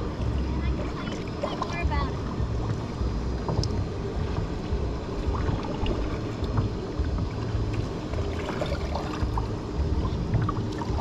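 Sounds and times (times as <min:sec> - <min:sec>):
water sloshing around kayak: 0:00.0 - 0:11.0
wind on microphone: 0:00.0 - 0:11.0.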